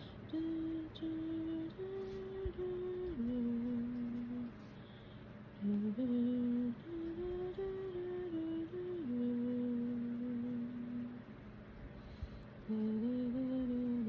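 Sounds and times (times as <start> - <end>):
woman humming a slow tune: 0.0 - 4.7, 5.6 - 11.4, 12.6 - 14.0.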